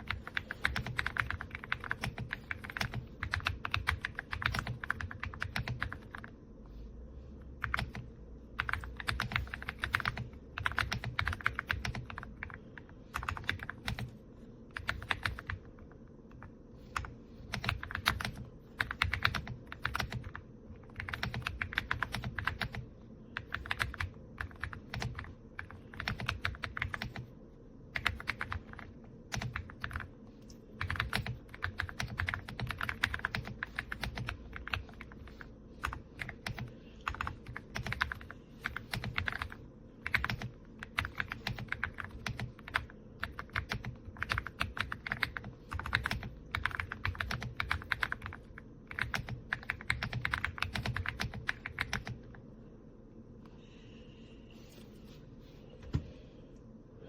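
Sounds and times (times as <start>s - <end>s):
mechanical keyboard typing: 0.0s - 6.3s, 7.6s - 27.3s, 27.9s - 30.1s, 30.8s - 52.2s.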